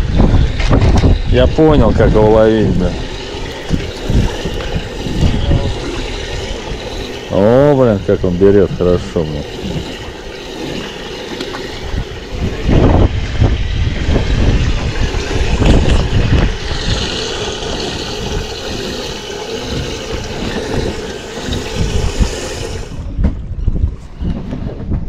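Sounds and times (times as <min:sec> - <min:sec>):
water lapping around boat: 0:00.0 - 0:25.0
wind buffeting microphone: 0:00.0 - 0:25.0.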